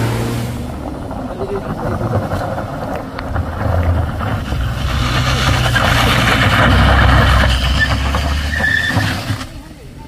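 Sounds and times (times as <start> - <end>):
rushing noise: 0.0 - 9.8
vehicle engine humming: 0.0 - 10.0.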